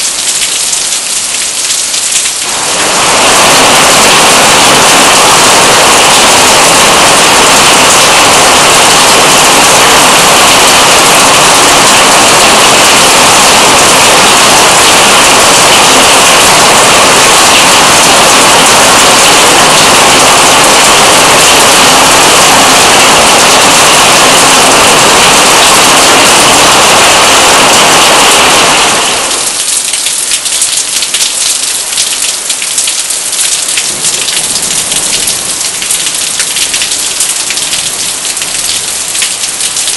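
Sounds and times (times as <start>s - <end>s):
heavy rain downpour: 0.0s - 39.9s
raindrops hitting hard surfaces: 0.0s - 39.9s.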